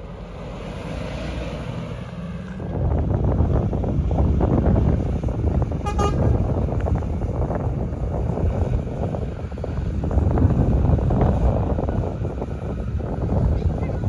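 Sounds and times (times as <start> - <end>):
heavy truck engine rumbling: 0.0 - 14.0.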